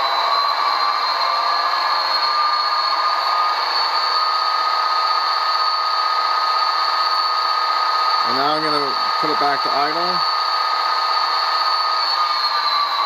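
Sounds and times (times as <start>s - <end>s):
diesel engine drone: 0.0s - 13.0s
turbocharger whine: 0.0s - 13.0s.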